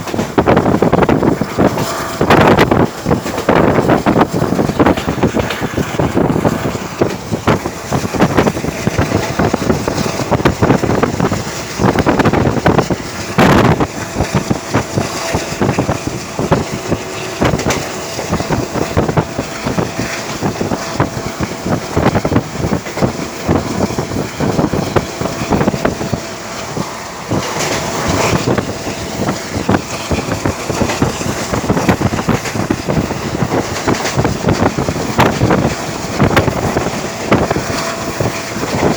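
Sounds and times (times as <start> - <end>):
train wheels rumbling on track: 0.0 - 38.9
wind buffeting microphone: 0.0 - 38.9.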